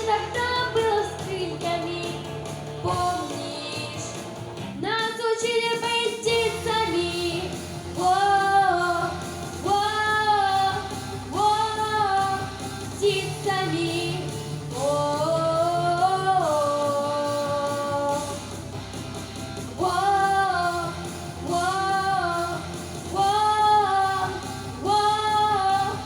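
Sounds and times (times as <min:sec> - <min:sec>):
girl singing: 0:00.0 - 0:18.4, 0:19.8 - 0:26.0.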